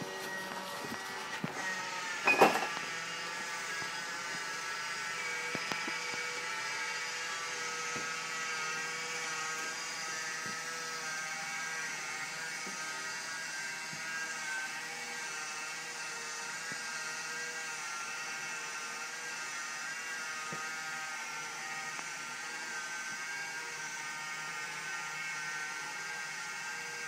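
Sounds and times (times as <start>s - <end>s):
electric drive whirring: 0.0s - 27.0s.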